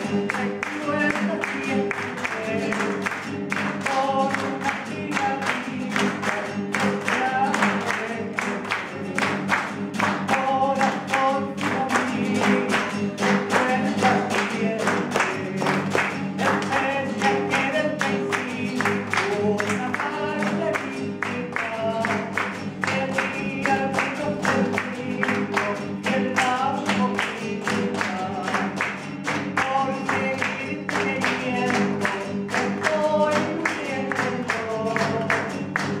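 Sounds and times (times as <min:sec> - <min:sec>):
people clapping the beat: 0:00.0 - 0:36.0
people singing: 0:00.0 - 0:36.0
strummed guitars: 0:00.0 - 0:36.0.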